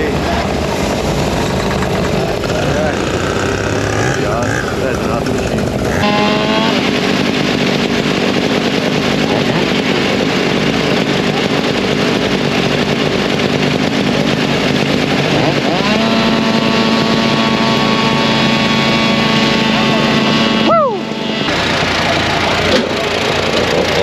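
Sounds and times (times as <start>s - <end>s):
log splitter gas engine: 0.0s - 24.0s.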